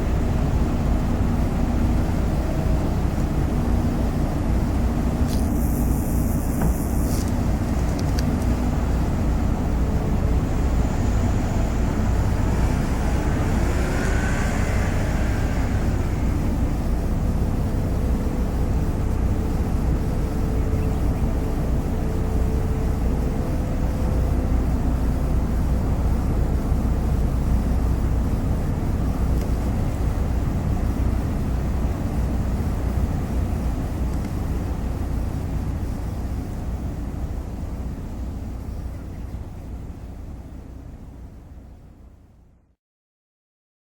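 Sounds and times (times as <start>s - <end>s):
ferry engine rumbling: 0.0s - 42.6s.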